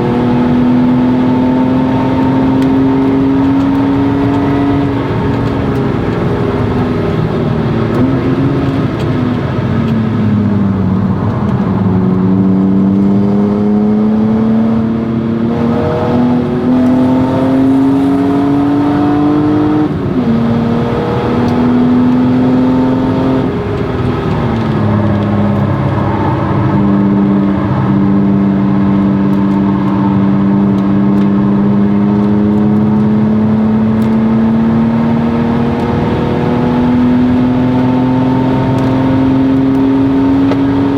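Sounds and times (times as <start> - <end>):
car engine accelerating on track: 0.0 - 40.9.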